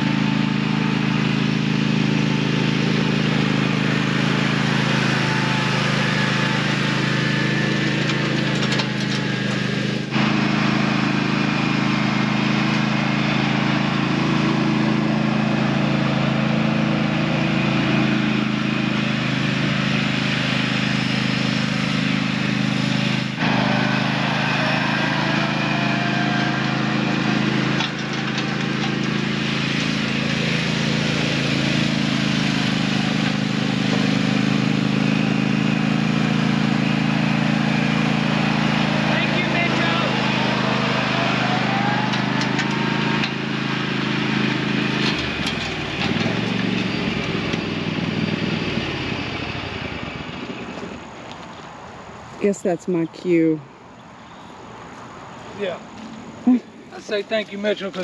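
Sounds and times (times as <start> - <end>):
small engine running steadily: 0.0 - 58.0.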